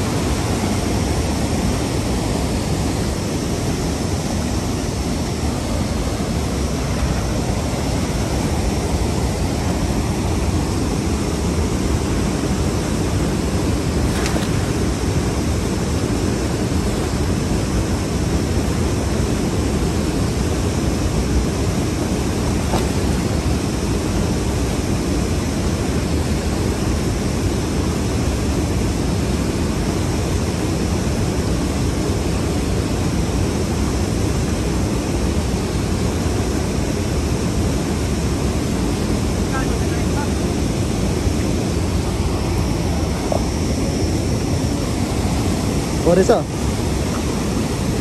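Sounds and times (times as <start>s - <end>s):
river rushing: 0.0s - 48.0s.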